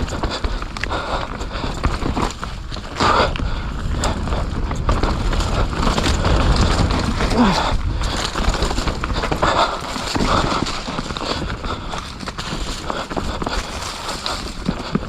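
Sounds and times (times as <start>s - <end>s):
bike rattling clicks: 0.0s - 15.0s
wind rumble on microphone: 0.0s - 15.0s.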